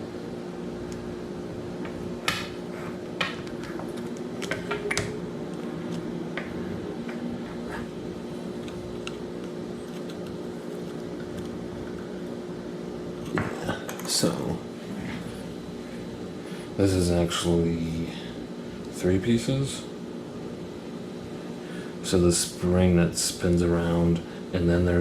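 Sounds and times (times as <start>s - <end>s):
fan-like hum: 0.0s - 25.0s.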